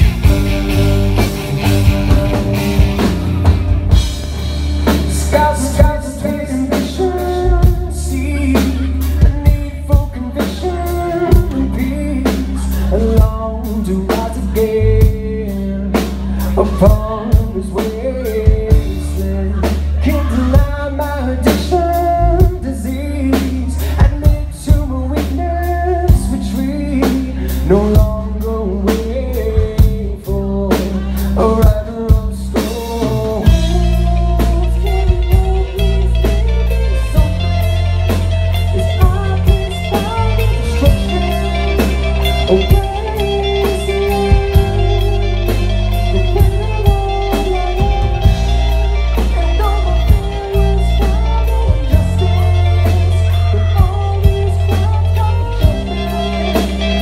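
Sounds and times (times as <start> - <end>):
live rock band playing: 0.0 - 57.0
person singing: 0.0 - 57.0.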